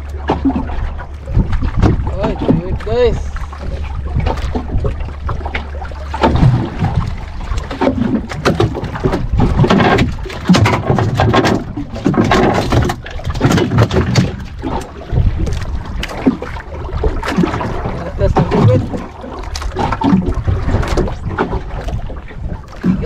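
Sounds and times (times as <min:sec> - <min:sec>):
knocks aboard boat: 0:00.0 - 0:23.0
rushing sea noise: 0:00.0 - 0:23.0.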